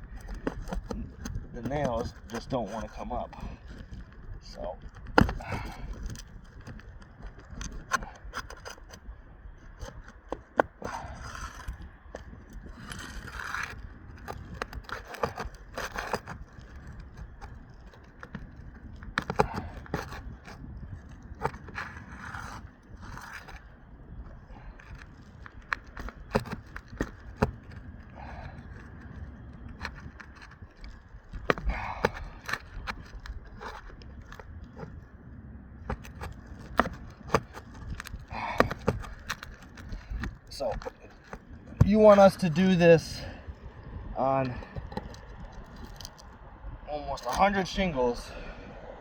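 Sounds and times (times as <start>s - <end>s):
tool scraping under shingles: 0.0s - 46.4s, 47.1s - 48.6s.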